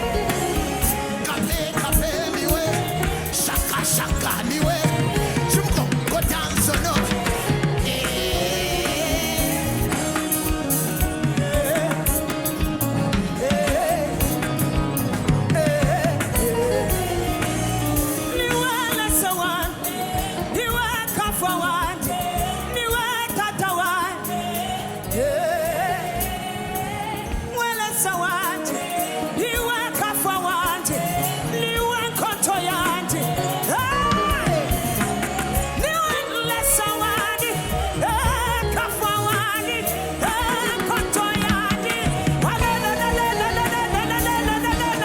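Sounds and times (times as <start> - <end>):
band accompaniment: 0.0 - 45.0
person singing: 0.0 - 45.0.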